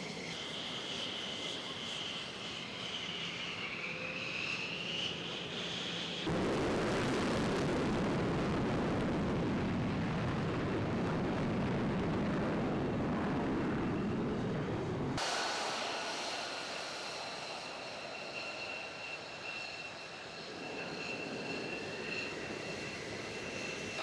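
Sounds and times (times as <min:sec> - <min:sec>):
jet engine deep rumble: 0:00.0 - 0:24.0
jet engine high-pitched whine: 0:00.0 - 0:24.0.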